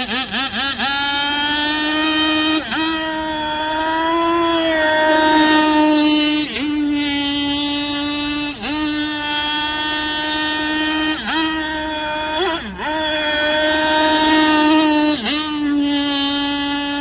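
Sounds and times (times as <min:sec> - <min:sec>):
model boat engine high whine: 0:00.0 - 0:17.0.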